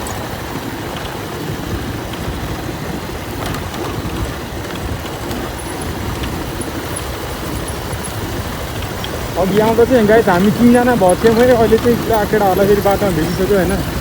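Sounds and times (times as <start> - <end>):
motorcycle coasting on dirt road: 0.0 - 14.0.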